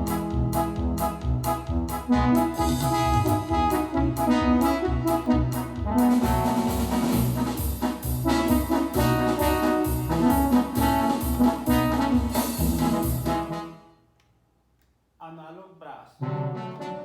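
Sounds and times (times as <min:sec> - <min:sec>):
steady drum beat: 0:00.0 - 0:13.6
bass line: 0:00.0 - 0:13.8
synthesizer brass riff: 0:00.0 - 0:14.1, 0:16.2 - 0:17.0.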